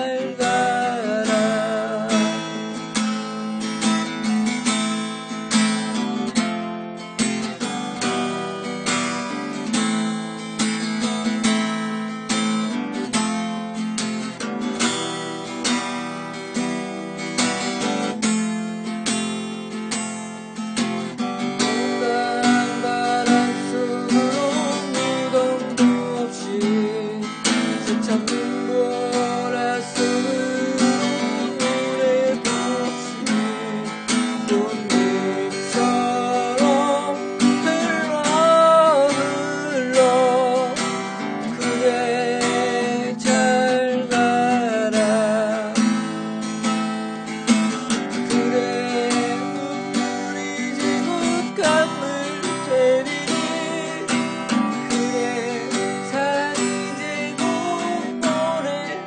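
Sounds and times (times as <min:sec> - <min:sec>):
acoustic guitar melody: 0:00.0 - 0:59.0.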